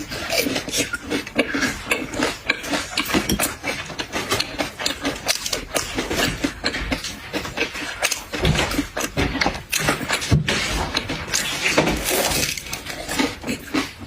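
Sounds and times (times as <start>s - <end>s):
crunching and chewing food: 0.0s - 14.0s.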